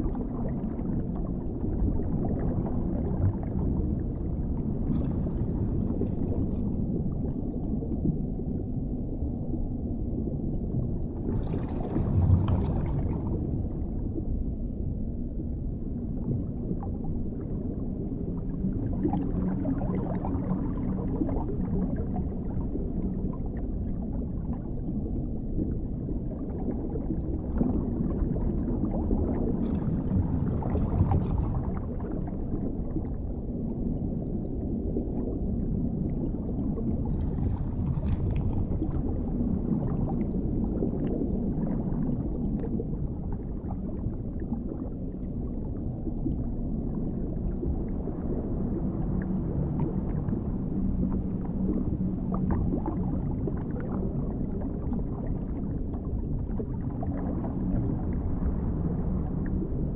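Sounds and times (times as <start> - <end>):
faint crackles and gurgles: 0.0 - 59.9
underwater rumble: 0.0 - 59.9.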